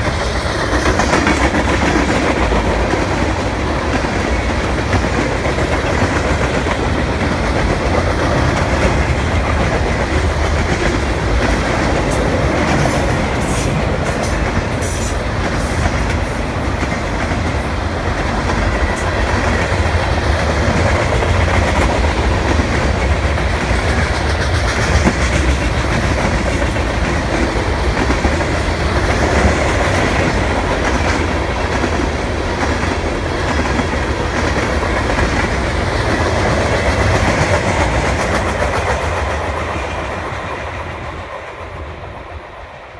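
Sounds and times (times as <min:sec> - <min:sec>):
freight train cars rolling: 0:00.0 - 0:42.6.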